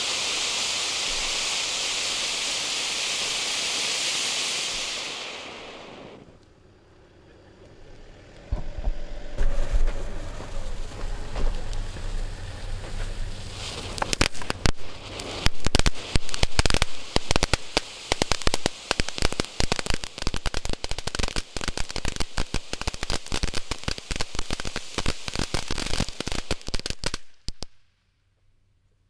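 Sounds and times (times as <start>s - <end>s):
firework fountain crackling: 0.0s - 7.2s, 8.8s - 27.9s.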